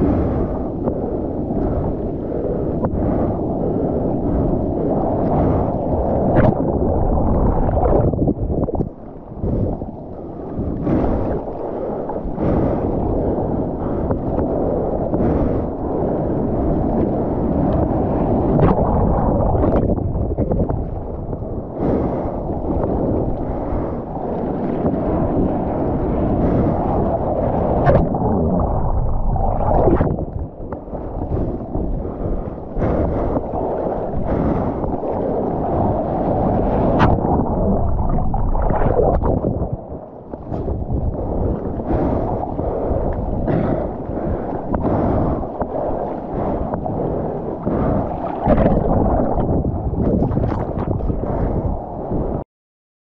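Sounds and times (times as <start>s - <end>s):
muffled water rushing and splashing: 0.0s - 52.4s
wind buffeting microphone: 0.0s - 52.4s.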